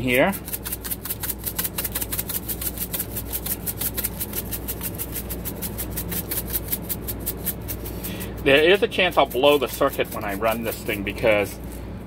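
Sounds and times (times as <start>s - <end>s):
generator running with ticking pulse: 0.0s - 11.8s.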